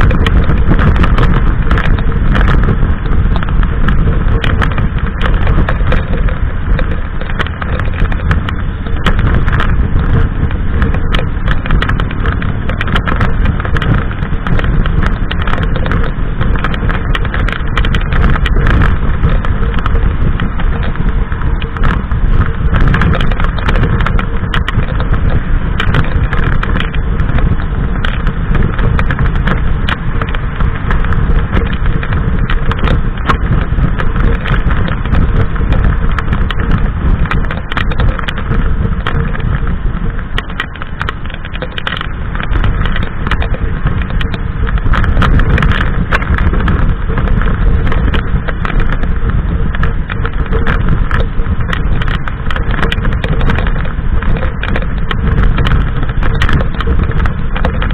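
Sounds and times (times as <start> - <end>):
motorcycle engine cruising: 0.0 - 57.9
wind rushing over microphone: 0.0 - 57.9.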